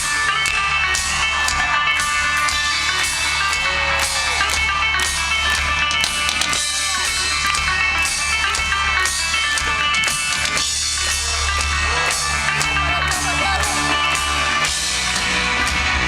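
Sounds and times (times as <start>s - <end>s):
bass guitar: 0.0s - 16.0s
plucked and strummed guitars: 0.0s - 16.0s
steady drum beat: 0.0s - 16.0s.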